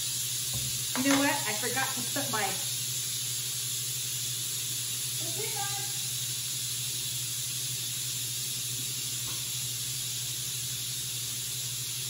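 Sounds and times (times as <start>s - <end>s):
pressure cooker steam hissing: 0.0s - 12.0s.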